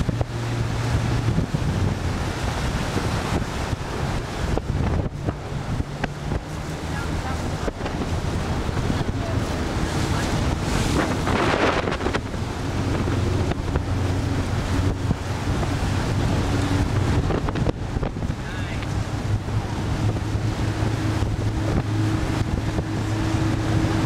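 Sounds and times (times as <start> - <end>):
water rushing against hull: 0.0 - 24.0
wind buffeting microphone: 0.0 - 24.0.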